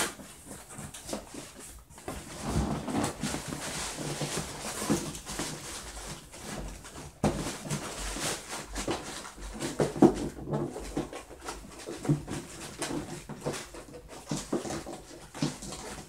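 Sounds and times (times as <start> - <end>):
cardboard and plastic rustling: 0.0 - 16.0.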